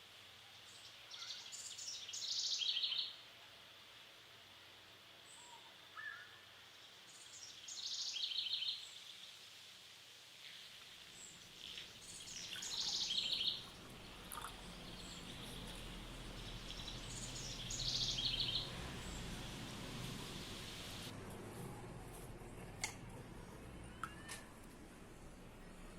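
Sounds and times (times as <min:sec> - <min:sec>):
faint steady hiss: 0:00.0 - 0:21.4.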